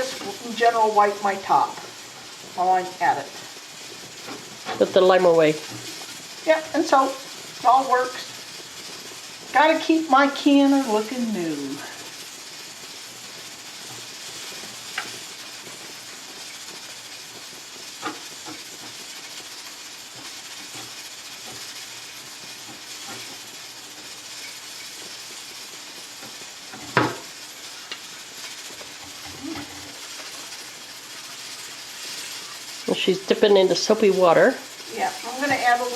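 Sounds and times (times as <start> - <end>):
fizzing hiss: 0.0 - 35.9.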